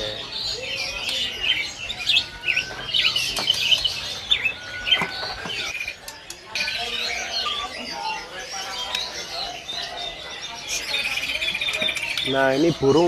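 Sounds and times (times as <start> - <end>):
songbirds chirping and twittering: 0.0 - 13.0.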